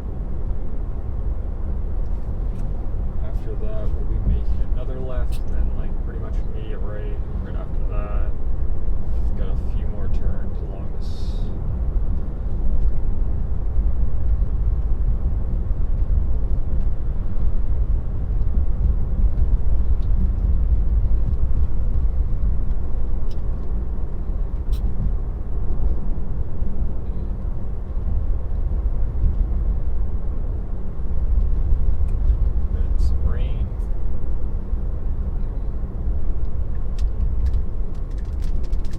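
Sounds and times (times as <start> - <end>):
road and tyre rumble in car: 0.0 - 38.9.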